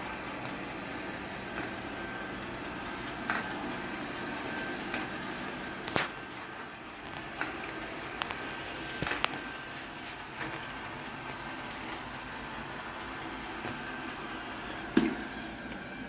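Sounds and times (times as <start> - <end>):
robot vacuum motor humming: 0.0 - 16.0.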